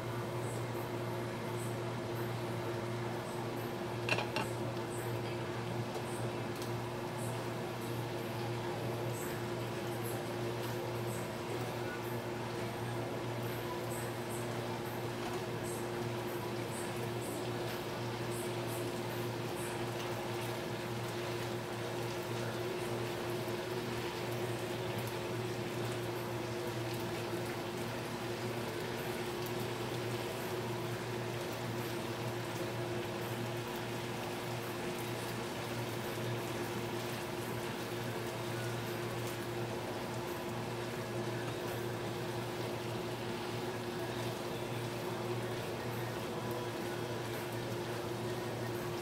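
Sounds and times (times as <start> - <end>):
constant low hum: 0.0 - 49.0.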